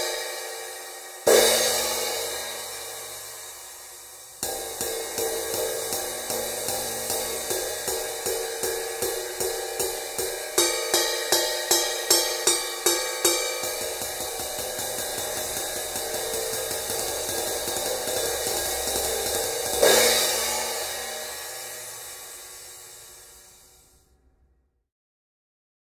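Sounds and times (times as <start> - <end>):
sizzle cymbal ridden with drumstick: 0.0 - 24.0
cymbal crash: 0.0 - 24.6.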